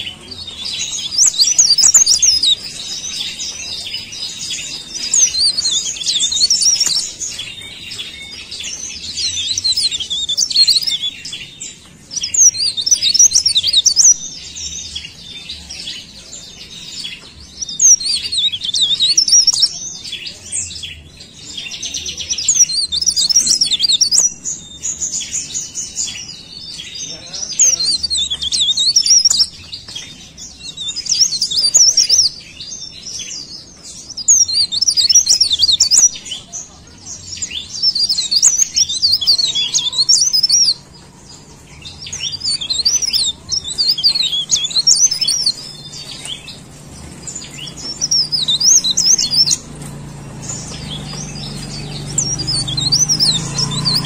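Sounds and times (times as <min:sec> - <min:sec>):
warbler twittering: 0:00.0 - 0:54.0.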